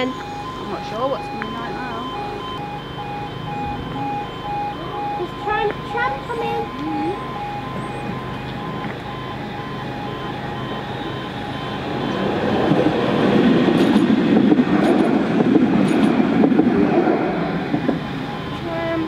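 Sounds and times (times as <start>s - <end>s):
tram running noise: 0.0s - 19.0s.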